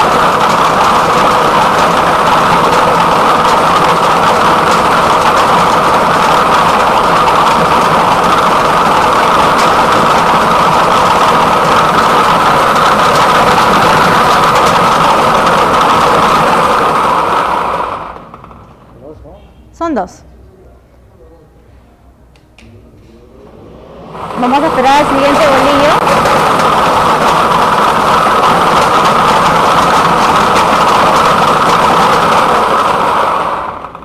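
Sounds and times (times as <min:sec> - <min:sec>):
lottery machine whirring: 0:00.0 - 0:34.0.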